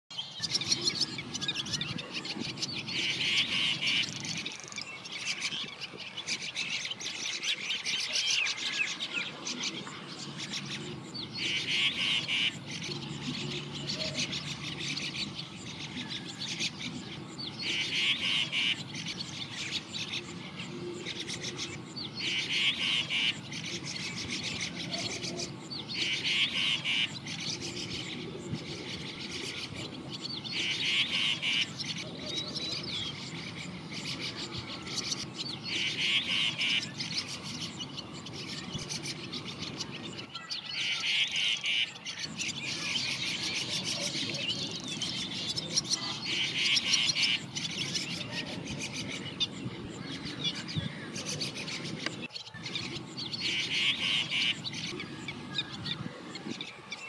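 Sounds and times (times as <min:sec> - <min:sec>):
bird trilling: 0:00.3 - 0:56.9.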